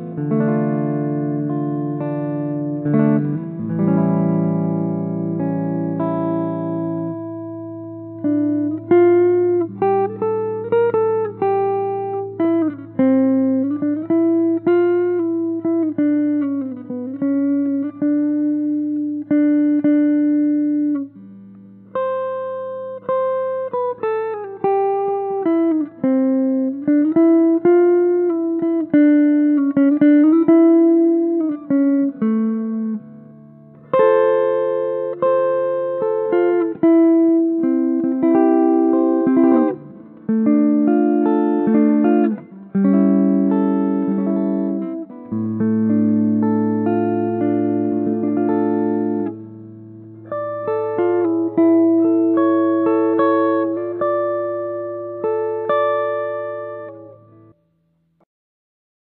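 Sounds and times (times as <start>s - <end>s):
picked guitar melody: 0.0s - 58.2s.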